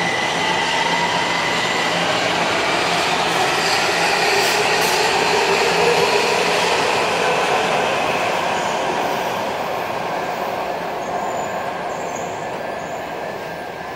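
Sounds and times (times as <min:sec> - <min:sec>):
train wheels on rail: 0:00.0 - 0:13.9.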